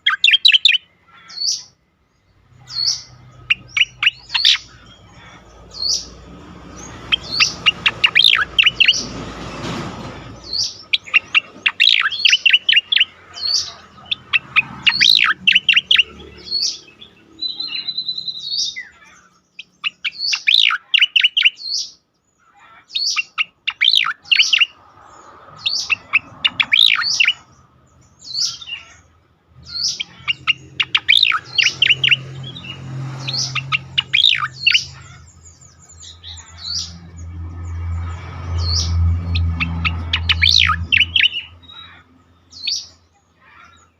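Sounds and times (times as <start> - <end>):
bird singing sharp chirps: 0.0 - 9.7, 10.3 - 22.0, 22.9 - 43.1.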